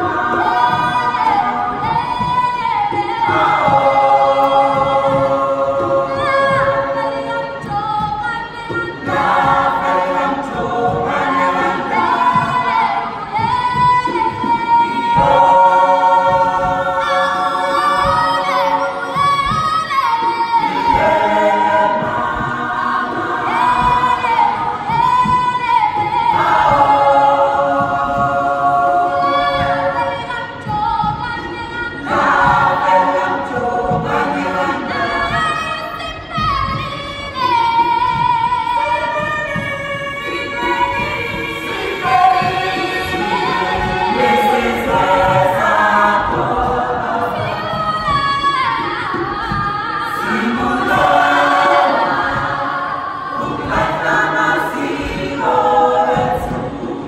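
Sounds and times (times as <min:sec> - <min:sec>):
group singing a cappella: 0:00.0 - 0:57.0.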